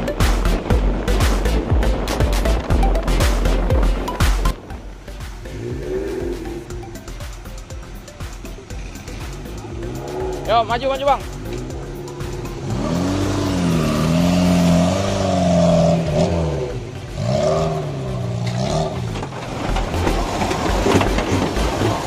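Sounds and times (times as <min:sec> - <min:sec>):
car engine revving: 0:00.0 - 0:22.0
rough engine rumble: 0:00.0 - 0:22.0.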